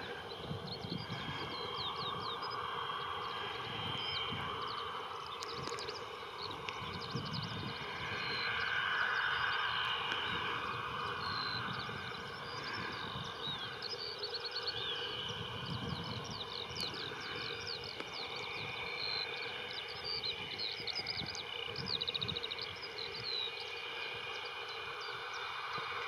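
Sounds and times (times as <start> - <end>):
jet engine whine and hiss: 0.0 - 26.0
small birds chirping: 0.0 - 26.0.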